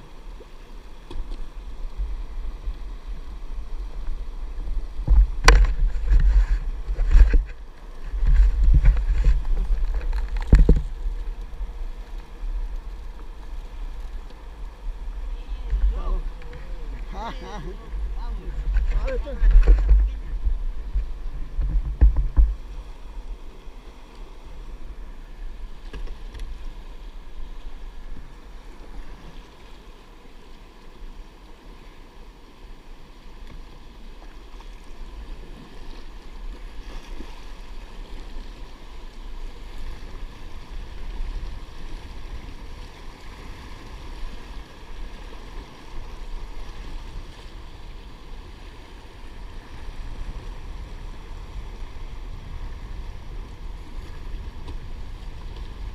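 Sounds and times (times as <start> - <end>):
water washing around kayak: 0.0 - 55.9
wind rumbling on microphone: 0.0 - 55.9.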